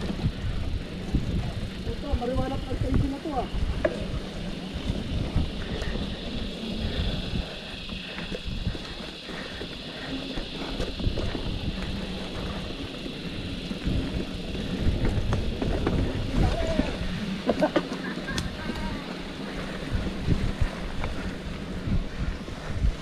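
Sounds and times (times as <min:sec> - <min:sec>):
mountain bike rolling on trail: 0:00.0 - 0:23.0
wind buffeting microphone: 0:00.0 - 0:23.0.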